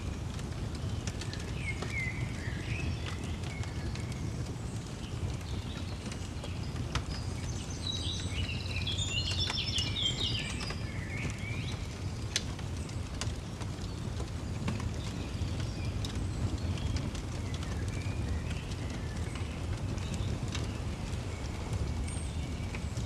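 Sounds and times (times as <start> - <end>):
fire crackling pops: 0.0 - 23.0
low fire rumble: 0.0 - 23.0
birds singing: 0.7 - 13.0, 13.8 - 23.0.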